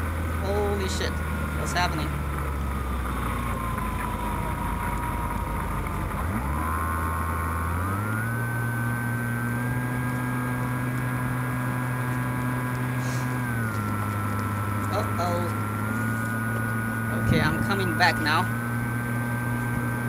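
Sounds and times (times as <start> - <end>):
rc plane motor whining: 0.0 - 20.0.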